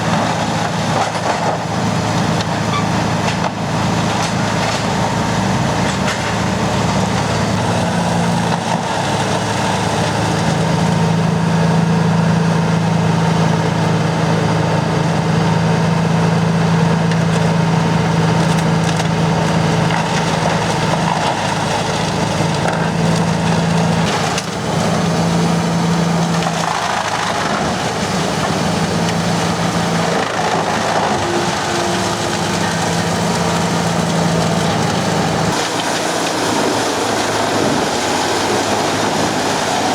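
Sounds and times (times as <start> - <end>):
wood chipper engine humming: 0.0 - 39.9
wood splintering and crunching: 0.0 - 39.9.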